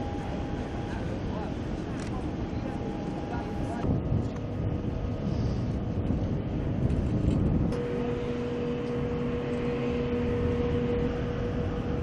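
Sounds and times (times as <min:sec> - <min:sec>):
jet airliner rumble: 0:00.0 - 0:12.0.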